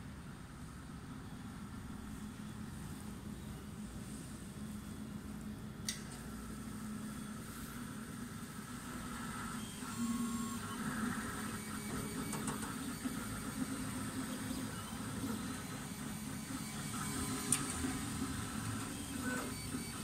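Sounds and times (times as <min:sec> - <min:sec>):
printer humming and whirring: 0:00.0 - 0:20.0.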